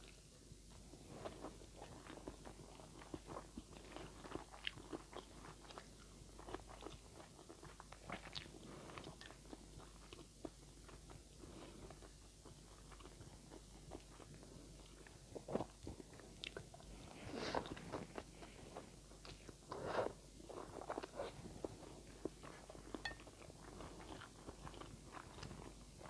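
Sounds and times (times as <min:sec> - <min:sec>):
chewing noodles: 0:00.0 - 0:26.0.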